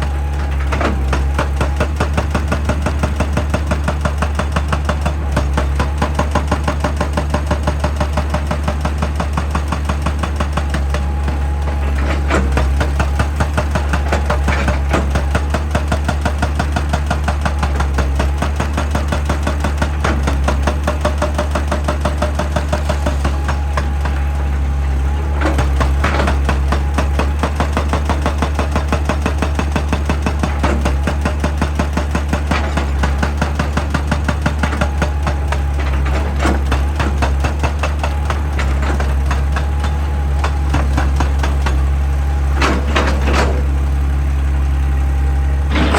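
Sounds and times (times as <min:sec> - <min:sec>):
diesel engine humming: 0:00.0 - 0:45.9
hydraulic rock breaker hammering rock: 0:00.0 - 0:45.9.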